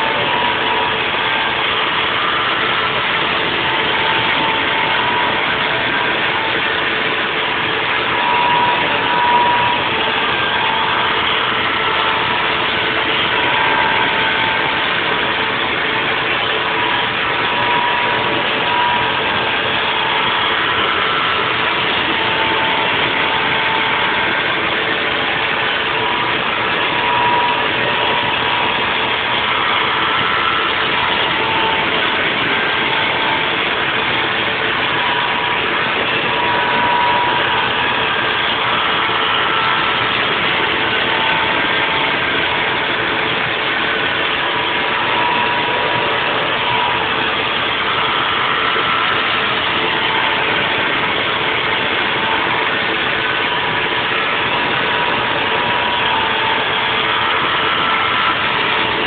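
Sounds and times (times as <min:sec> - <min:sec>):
high whining cutting tool: 0:00.0 - 0:59.0
milling machine humming: 0:00.0 - 0:59.0.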